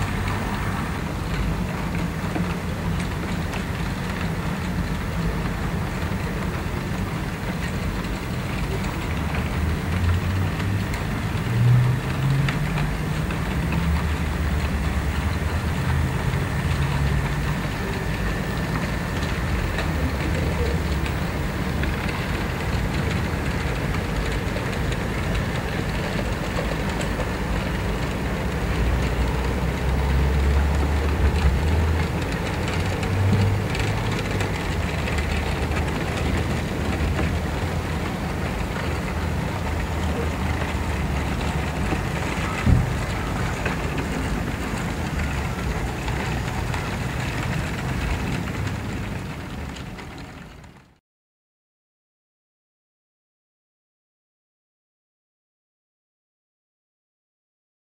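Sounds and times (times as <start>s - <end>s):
model train rumbling on track: 0.0s - 51.0s.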